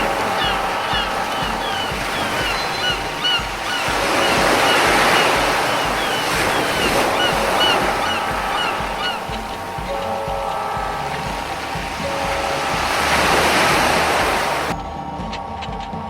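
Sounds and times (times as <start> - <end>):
ocean wave washing in: 0.0 - 14.8
steady low beat: 0.0 - 16.0.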